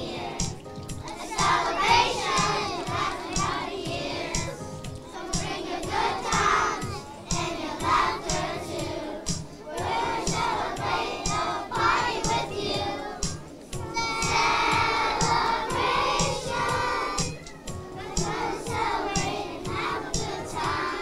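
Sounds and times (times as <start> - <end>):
backing track with steady beat: 0.0 - 21.0
children's choir singing: 0.0 - 21.0.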